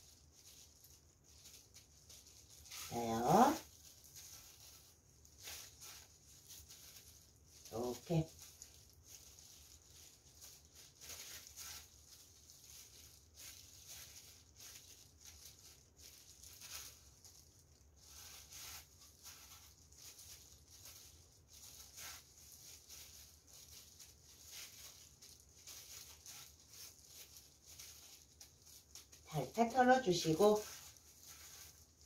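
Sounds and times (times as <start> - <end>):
breadcrumbs rustling and crunching: 0.0 - 32.0.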